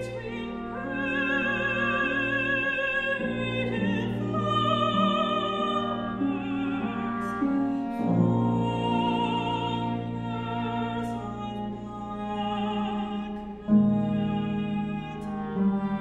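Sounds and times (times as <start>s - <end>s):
cello: 0.0s - 16.0s
clarinet: 0.0s - 16.0s
oboe: 0.0s - 16.0s
soprano singing with vibrato: 0.0s - 16.0s.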